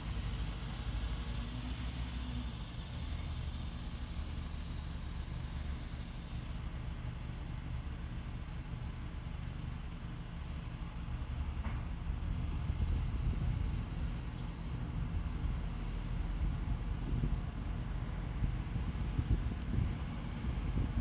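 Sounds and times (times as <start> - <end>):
truck engine humming: 0.0 - 21.0.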